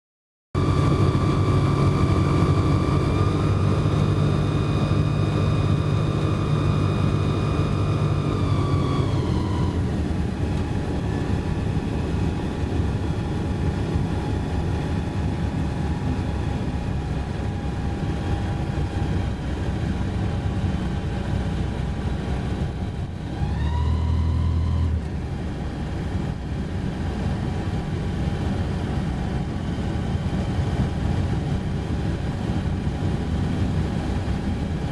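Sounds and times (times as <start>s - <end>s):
light aircraft engine droning: 0.6s - 34.9s.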